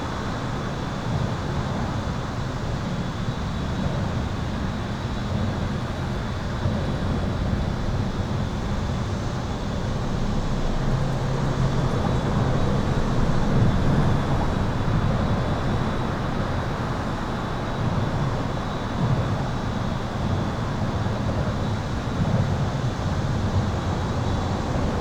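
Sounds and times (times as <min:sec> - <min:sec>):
highway traffic rumble: 0:00.0 - 0:25.0.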